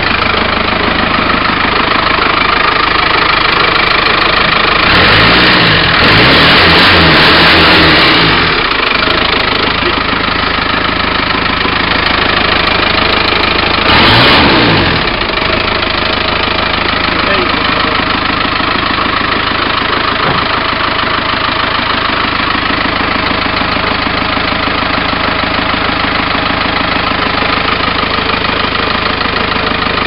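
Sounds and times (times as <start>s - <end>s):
diesel engine idling and revving: 0.0s - 30.0s.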